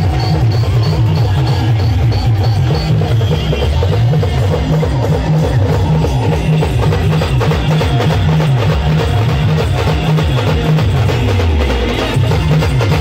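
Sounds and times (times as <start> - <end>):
band music over loudspeakers: 0.0 - 13.0
heavy bass line: 0.0 - 13.0.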